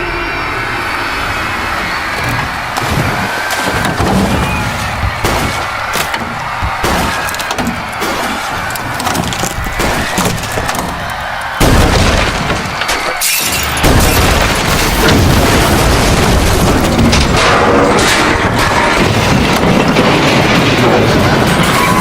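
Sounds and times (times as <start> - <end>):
crashing and rending din: 2.0 - 22.0.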